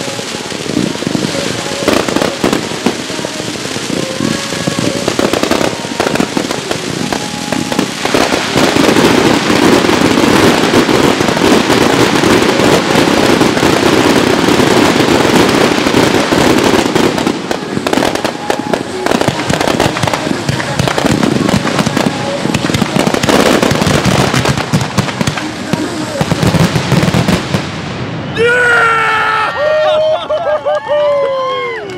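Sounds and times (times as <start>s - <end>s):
fireworks launching and bursting: 0.0s - 28.4s.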